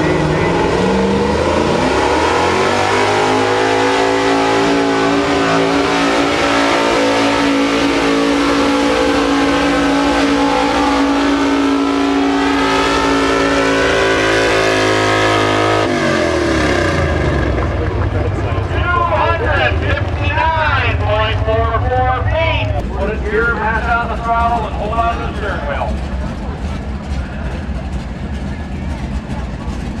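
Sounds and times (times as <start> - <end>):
truck engine at high revs: 0.0 - 30.0.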